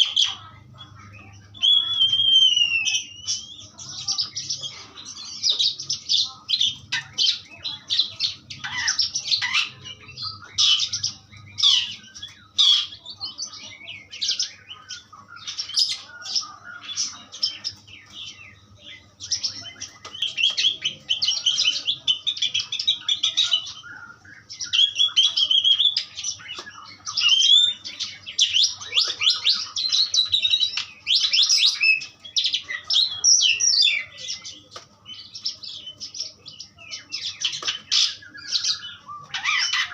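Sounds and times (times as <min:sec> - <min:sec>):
starling singing chattering notes: 0:00.0 - 0:39.9.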